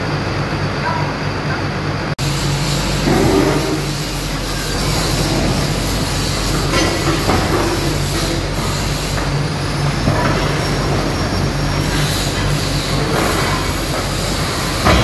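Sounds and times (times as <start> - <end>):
excavator diesel drone: 0.0 - 15.0
hydraulics working: 0.0 - 15.0.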